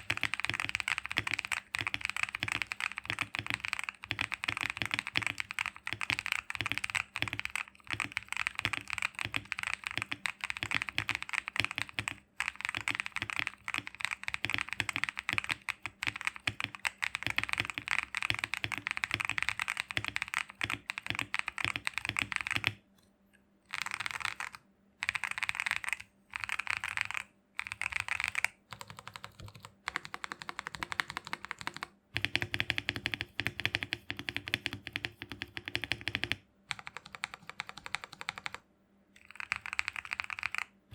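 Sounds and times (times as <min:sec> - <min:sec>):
typing on mechanical keyboard: 0:00.0 - 0:22.8, 0:23.7 - 0:38.6, 0:39.2 - 0:40.8.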